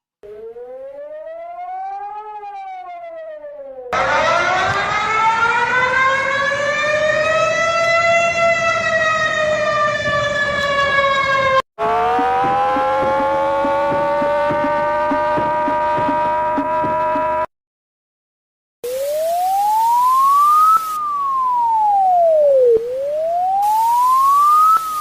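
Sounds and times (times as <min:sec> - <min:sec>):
siren wailing: 0:00.2 - 0:17.5, 0:18.8 - 0:25.0
steady siren tone: 0:00.2 - 0:17.5, 0:18.8 - 0:25.0.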